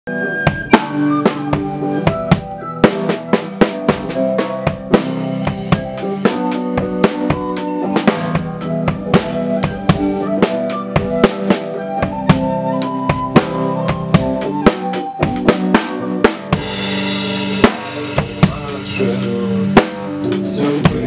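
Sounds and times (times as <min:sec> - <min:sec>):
sustained band instrument notes: 0:00.1 - 0:21.0.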